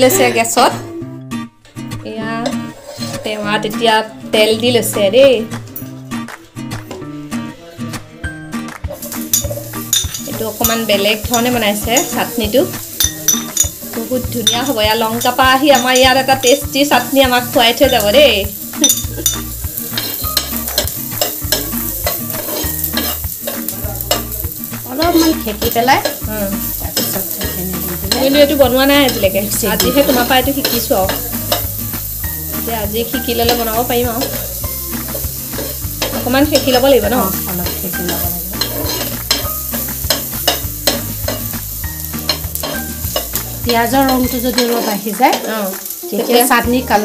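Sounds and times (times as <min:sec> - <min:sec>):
spoon scraping a pan: 0:02.4 - 0:03.6, 0:09.0 - 0:47.0
vegetables sizzling in hot oil: 0:08.9 - 0:47.0.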